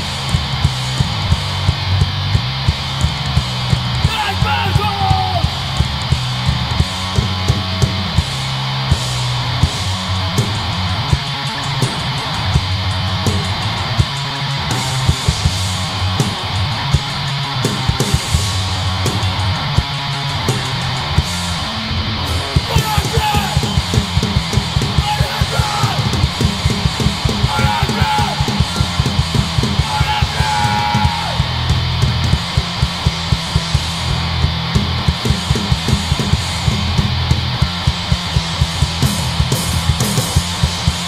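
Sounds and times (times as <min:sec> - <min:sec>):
bass guitar: 0:00.0 - 0:41.0
distorted electric guitar: 0:00.0 - 0:41.0
drum kit: 0:00.0 - 0:41.0.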